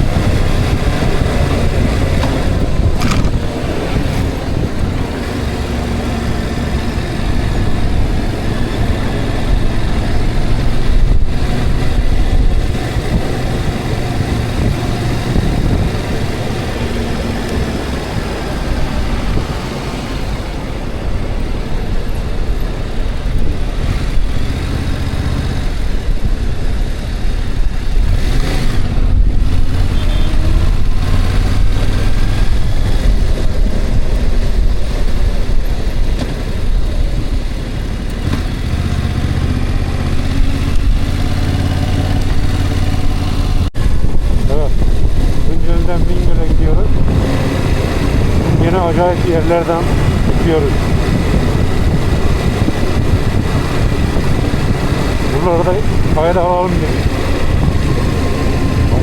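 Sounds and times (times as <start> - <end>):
road and wind noise: 0.0 - 59.0
vehicle engine hum: 0.0 - 59.0.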